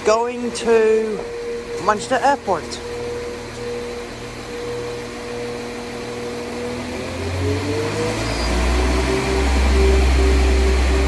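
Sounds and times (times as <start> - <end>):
diesel train engine accelerating: 0.0 - 11.0.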